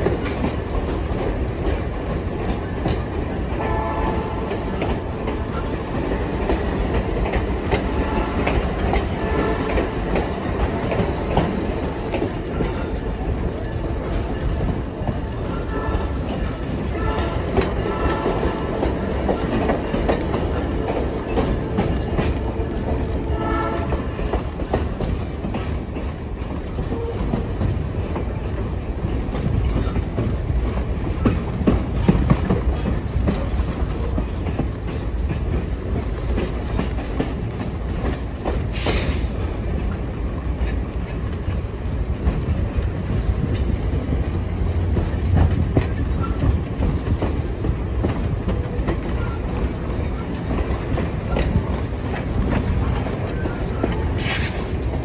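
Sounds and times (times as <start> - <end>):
train rumbling on track: 0.0 - 55.0
wheels clacking over rail joints: 0.0 - 55.0.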